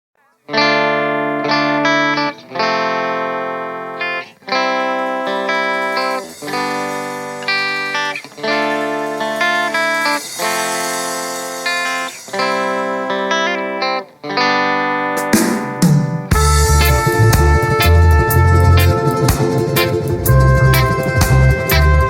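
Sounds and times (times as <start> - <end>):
electric guitar ringing chords: 0.2 - 22.0.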